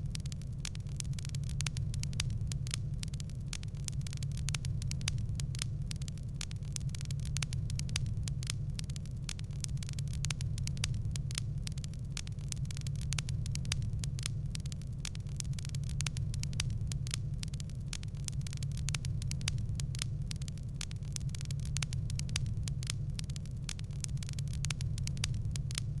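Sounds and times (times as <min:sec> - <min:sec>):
low rumble of burning fire: 0:00.0 - 0:26.0
wood fire crackling: 0:00.0 - 0:26.0.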